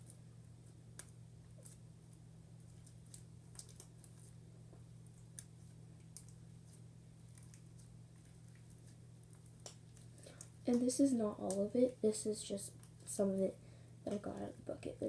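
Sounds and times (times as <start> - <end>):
slime squishing by hand: 0.0 - 13.3.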